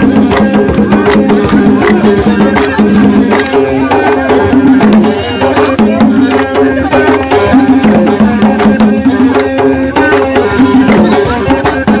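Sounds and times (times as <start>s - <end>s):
fast hand-drum strokes: 0.0s - 12.0s
pitched melody: 0.0s - 12.0s.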